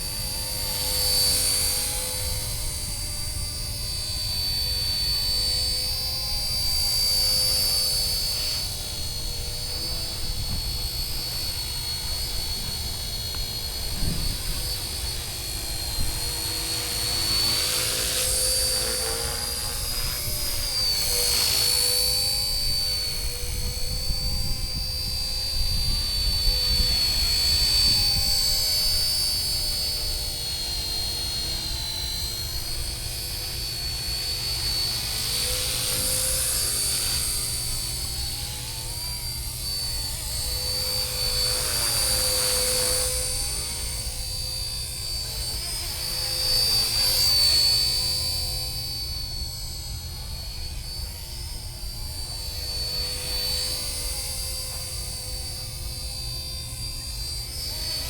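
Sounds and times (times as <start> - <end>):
low rotor buzz: 0.0 - 58.0
model helicopter motor whine: 0.0 - 58.0.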